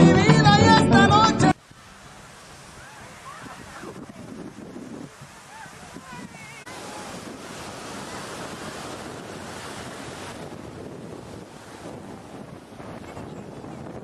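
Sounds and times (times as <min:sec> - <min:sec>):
beach surf: 0:00.0 - 0:14.0
wind rushing over microphone: 0:02.2 - 0:14.0.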